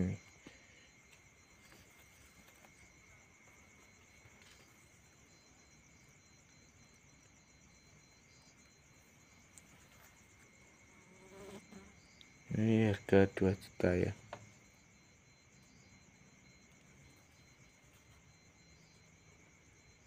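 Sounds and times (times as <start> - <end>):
night insects trilling: 0.0 - 20.0.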